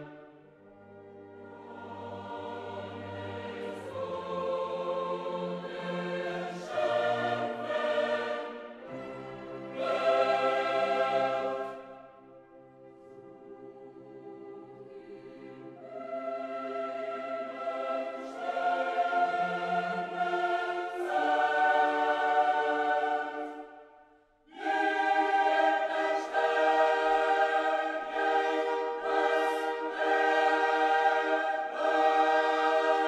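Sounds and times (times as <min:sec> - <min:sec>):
choir-like voices singing sustained chords: 0:00.0 - 0:33.0.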